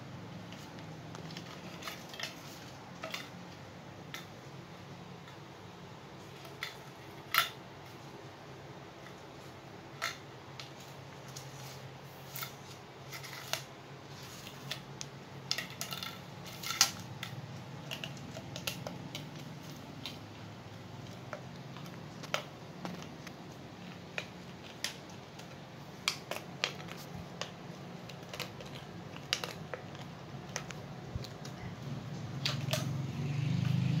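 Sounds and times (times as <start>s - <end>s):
puppy claws clicking on tiles: 0.4s - 4.5s, 6.2s - 8.1s, 9.0s - 33.9s.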